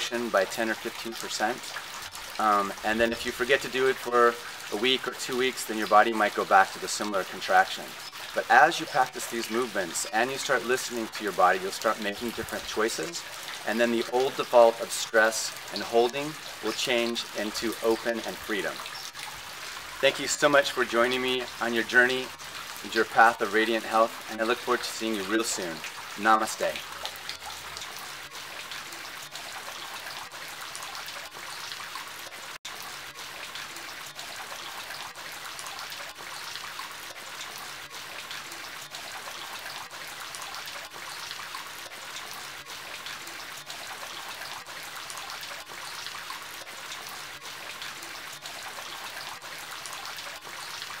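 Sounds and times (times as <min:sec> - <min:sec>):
trickling running water: 0:00.0 - 0:51.0.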